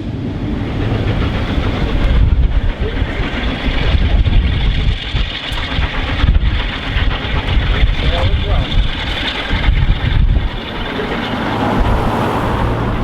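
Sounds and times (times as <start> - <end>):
steam locomotive rumbling: 0.0 - 13.0
wind buffeting microphone: 0.0 - 13.0.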